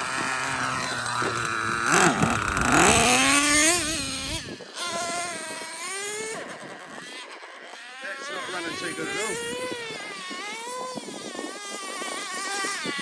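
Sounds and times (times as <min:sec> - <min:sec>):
small nitro engine revving: 0:00.0 - 0:13.0.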